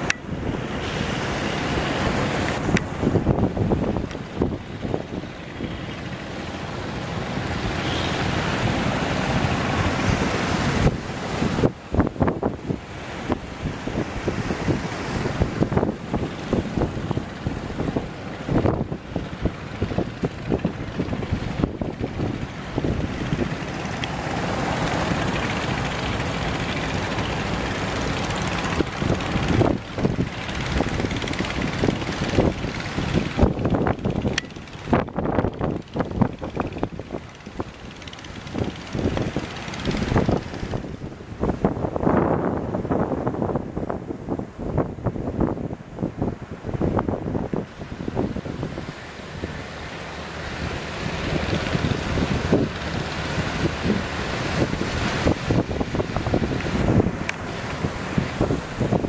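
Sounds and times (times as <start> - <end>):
boat engine running: 0.0 - 59.0
wind buffeting microphone: 0.0 - 59.0.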